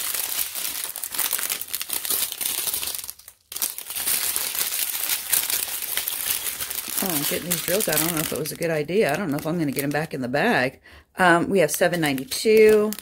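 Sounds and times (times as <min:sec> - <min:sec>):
plastic bags crinkling: 0:00.0 - 0:10.6, 0:11.5 - 0:13.0.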